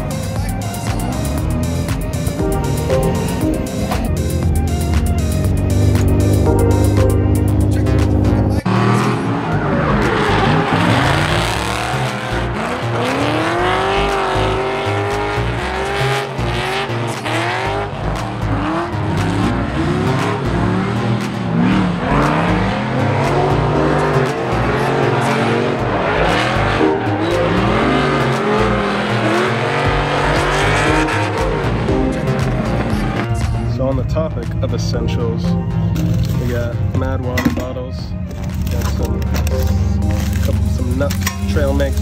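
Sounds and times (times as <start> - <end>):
car engines revving hard: 0.0 - 37.0, 38.2 - 42.0.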